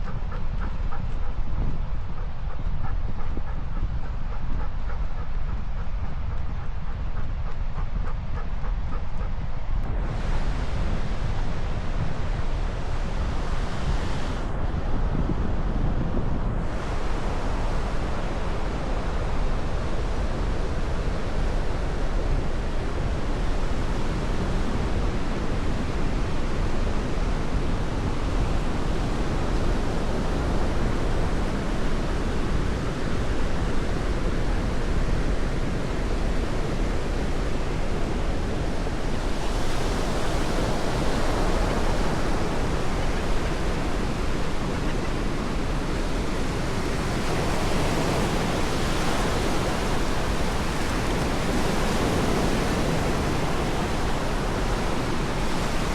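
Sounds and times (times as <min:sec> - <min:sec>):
ocean surf on a beach: 0:00.0 - 0:55.9.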